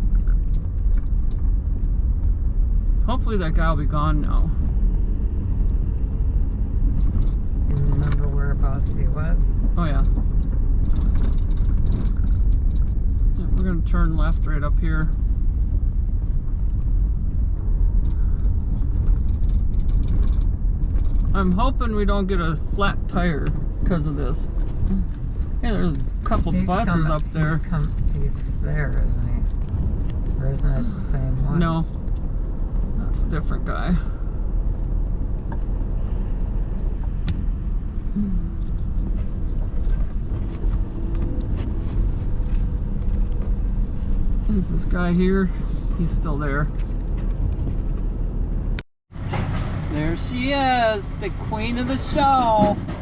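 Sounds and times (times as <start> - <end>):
vehicle low rumble: 0.0 - 53.0.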